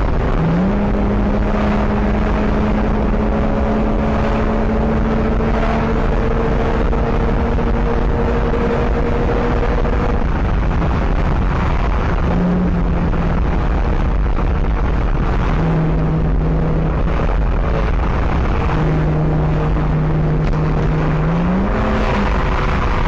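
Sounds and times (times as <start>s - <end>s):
engine and exhaust droning: 0.0s - 23.0s
road and wind noise: 0.0s - 23.0s.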